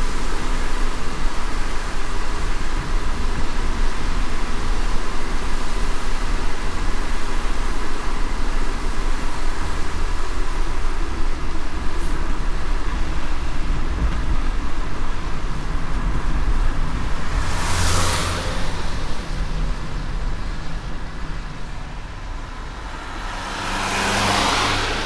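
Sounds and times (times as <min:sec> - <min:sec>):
rain hiss: 0:00.0 - 0:25.0
road and engine rumble: 0:00.0 - 0:25.0.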